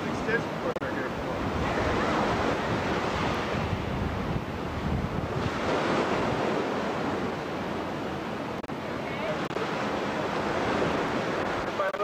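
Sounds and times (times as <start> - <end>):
wind buffeting microphone: 0.0 - 11.9
surf washing against rocks: 0.0 - 12.0.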